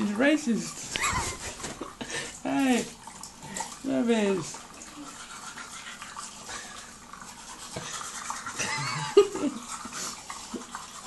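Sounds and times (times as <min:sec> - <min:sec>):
toothbrush scrubbing teeth: 0:00.0 - 0:11.0.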